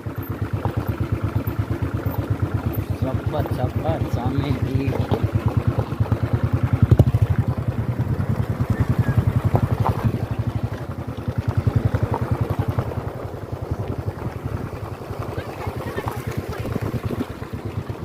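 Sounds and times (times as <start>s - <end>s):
motorcycle engine pulsing: 0.0s - 18.0s.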